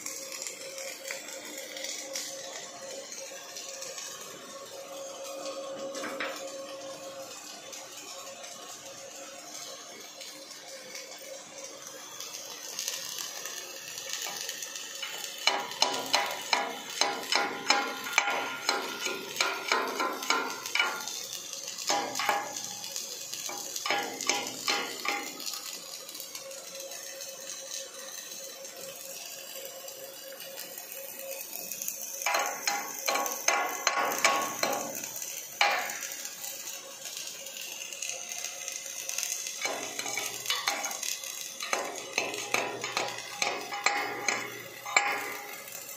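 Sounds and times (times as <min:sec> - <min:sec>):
welding arc sizzling: 0:00.0 - 0:45.9.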